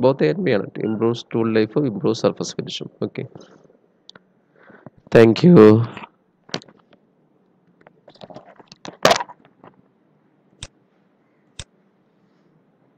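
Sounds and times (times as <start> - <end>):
faint low hum: 0.0 - 12.9.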